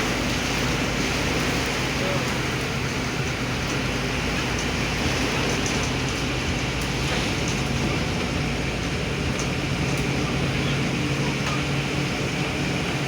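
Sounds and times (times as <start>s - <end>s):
heavy rain on a car: 0.0s - 13.0s
low engine hum: 0.0s - 13.0s.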